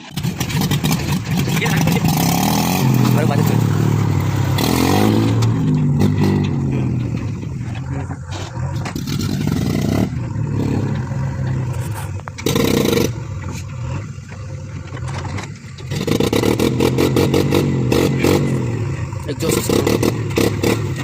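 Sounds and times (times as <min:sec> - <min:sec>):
diesel engine revving: 0:00.0 - 0:21.0
pulsing exhaust chuff: 0:00.0 - 0:21.0.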